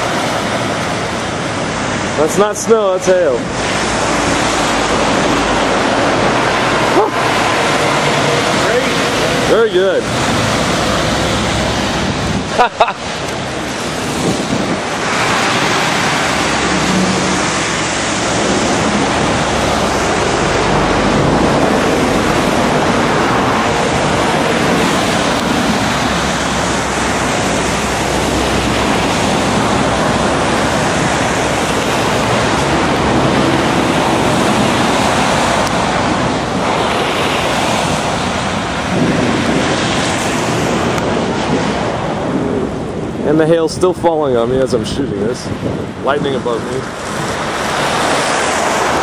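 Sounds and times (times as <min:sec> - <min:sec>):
vehicles passing on wet highway: 0:00.0 - 0:49.0
wind buffeting microphone: 0:00.0 - 0:49.0.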